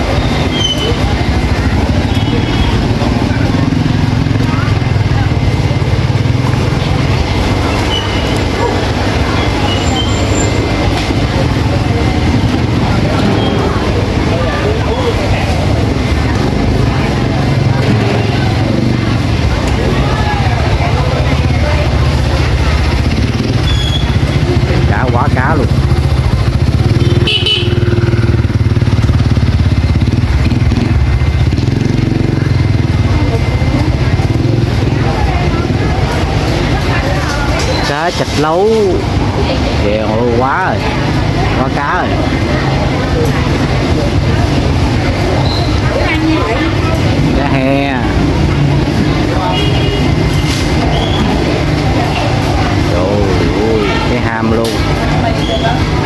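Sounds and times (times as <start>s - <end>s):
small motorbike engine running: 0.0s - 56.0s.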